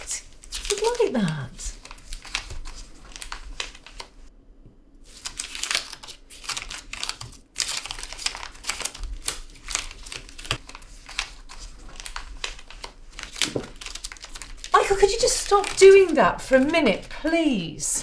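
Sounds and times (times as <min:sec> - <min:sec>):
paper crumpling: 0:00.3 - 0:04.2, 0:05.0 - 0:17.7.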